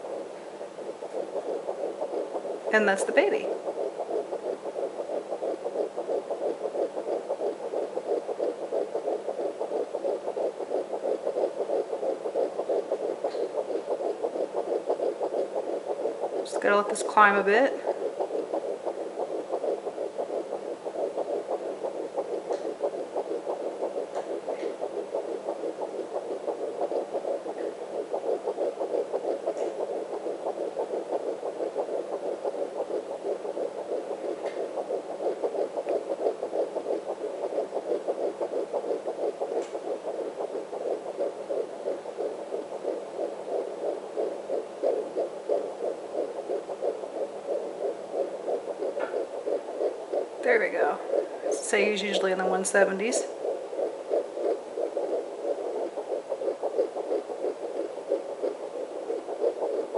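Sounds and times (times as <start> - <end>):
fetal heartbeat whooshing pulse: 0.0 - 59.9.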